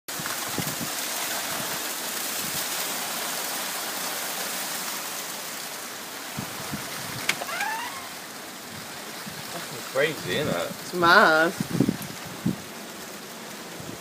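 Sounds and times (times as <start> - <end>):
heavy rain pouring: 0.1 - 14.0.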